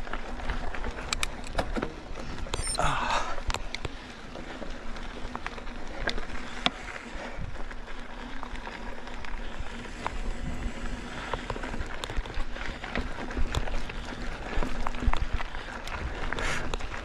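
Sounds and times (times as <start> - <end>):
bike clicks and rattles: 0.0 - 17.0
bike tyres on dirt: 0.0 - 17.0.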